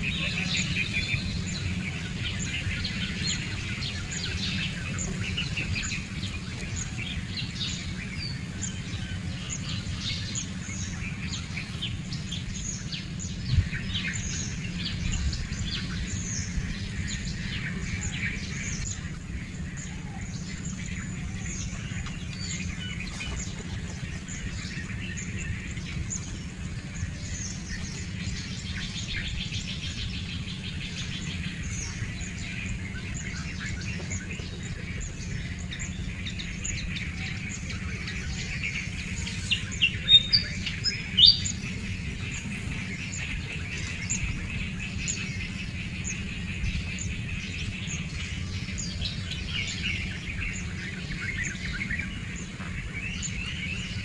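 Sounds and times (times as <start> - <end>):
birds chirping: 0.0 - 54.0
low wind rumble: 0.0 - 54.0.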